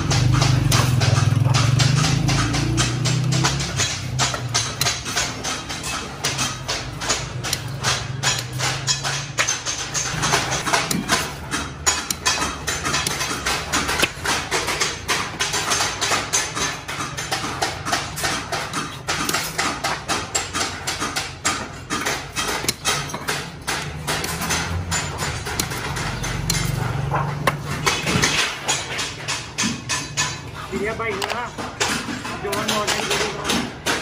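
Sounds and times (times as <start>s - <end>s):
hand shears cutting sheet metal: 0.0s - 34.0s.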